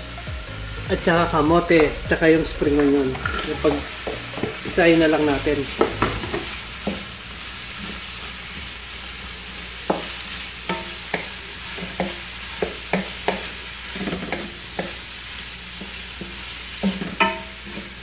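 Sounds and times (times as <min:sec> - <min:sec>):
food sizzling in oil: 0:00.0 - 0:18.0
spatula scraping a wok: 0:01.8 - 0:18.0.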